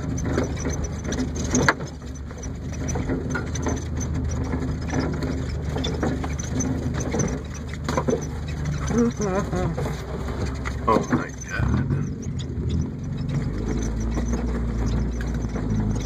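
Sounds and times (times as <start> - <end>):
car engine running: 0.0 - 16.0
car interior rattling and clunking: 0.0 - 16.0.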